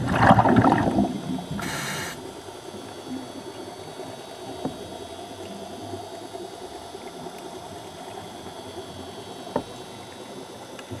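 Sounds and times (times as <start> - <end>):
underwater hum and hiss: 0.0 - 11.0.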